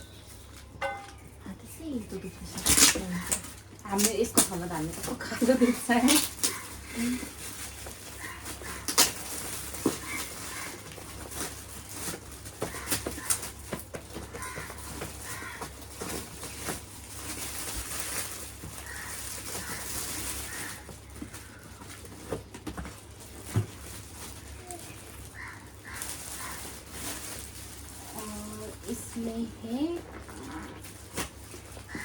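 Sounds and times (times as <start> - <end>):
gift packaging clicks and crinkles: 0.0 - 32.0.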